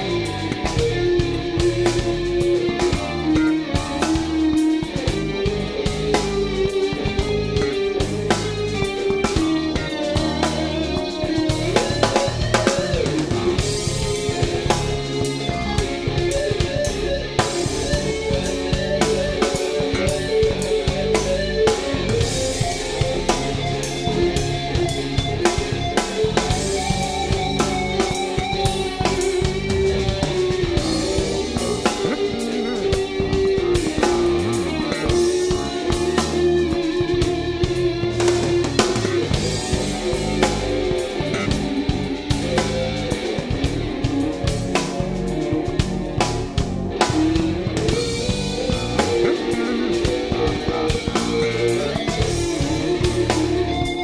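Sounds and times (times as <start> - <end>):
drum kit beat: 0.0 - 54.0
instrumental band playing: 0.0 - 54.0.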